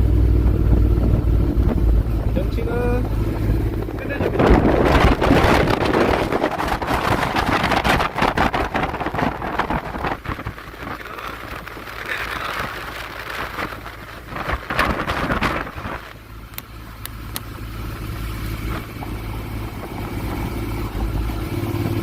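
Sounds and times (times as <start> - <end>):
scooter engine humming: 0.0 - 22.0
wind rushing over microphone: 0.0 - 22.0.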